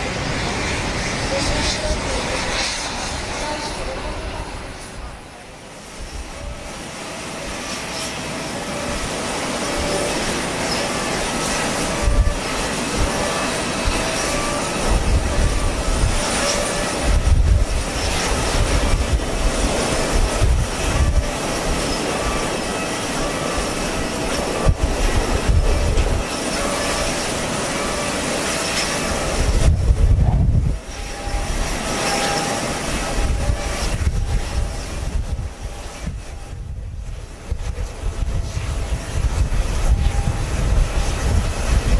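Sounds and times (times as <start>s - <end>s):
airliner engines whining: 0.0s - 41.9s
wind buffeting microphone: 0.0s - 41.9s.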